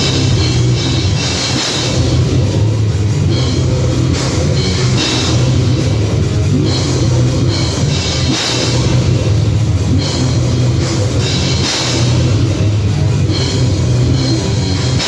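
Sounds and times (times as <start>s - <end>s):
cymbal crashes: 0.0s - 15.0s
heavy metal band playing: 0.0s - 15.0s.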